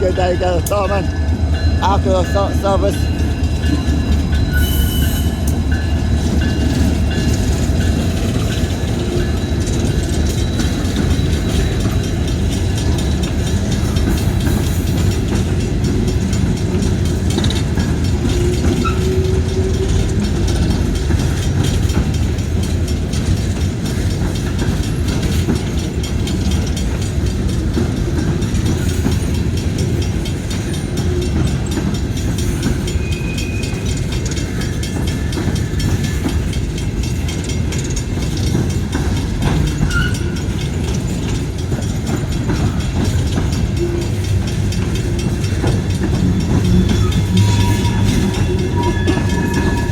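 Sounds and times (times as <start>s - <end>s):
train wheels rumbling and rattling: 0.0s - 49.9s.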